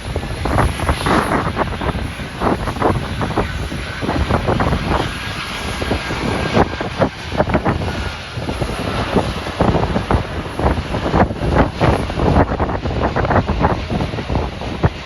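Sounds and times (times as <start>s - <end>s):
aircraft engine rushing hiss: 0.0s - 15.0s
wind gusting on microphone: 0.0s - 15.0s.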